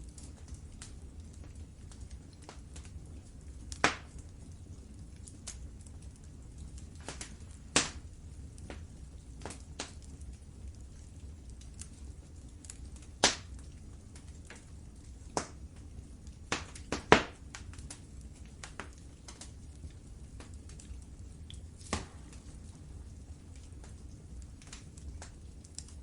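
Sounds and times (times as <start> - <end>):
fire popping: 0.0 - 26.0
low steady rumble: 0.0 - 26.0
wood fire crackling: 0.0 - 26.0.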